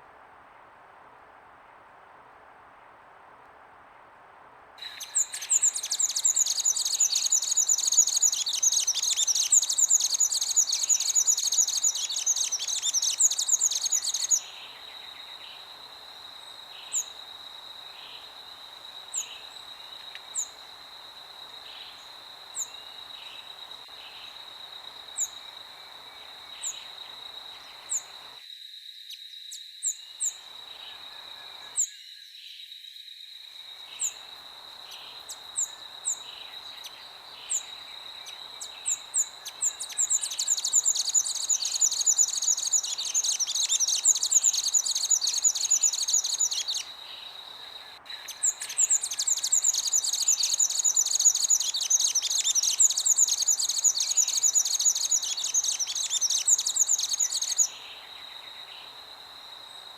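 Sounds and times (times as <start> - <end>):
faint hiss of wind: 0.0 - 59.9
steady high insect trill: 4.8 - 59.9.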